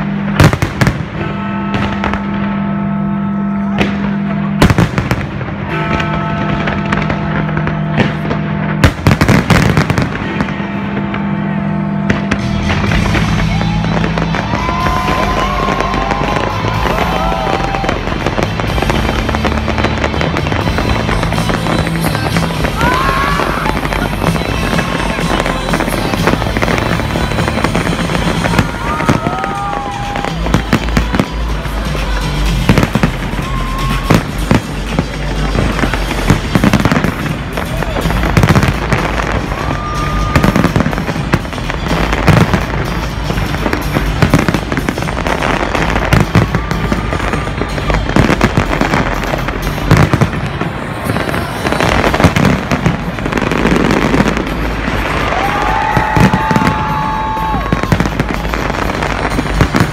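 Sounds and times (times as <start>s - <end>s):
fireworks bangs and crackling: 0.0s - 59.9s
whistling fireworks: 0.0s - 59.9s
music: 3.7s - 59.9s.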